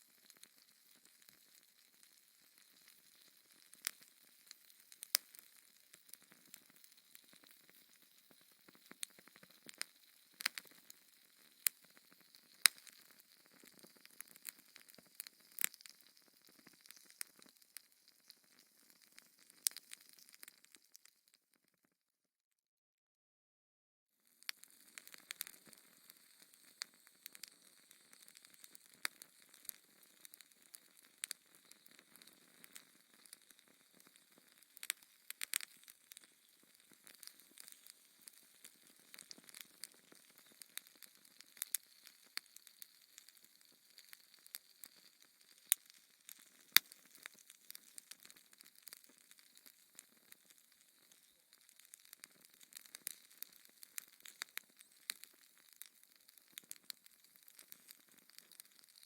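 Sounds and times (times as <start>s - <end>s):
wood fire crackling: 0.1s - 21.1s, 24.4s - 59.0s.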